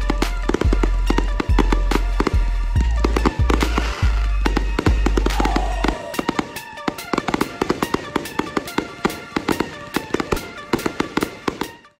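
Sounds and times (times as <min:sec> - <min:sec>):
background music: 0:00.0 - 0:12.0
firework battery popping and cracking: 0:00.0 - 0:12.0.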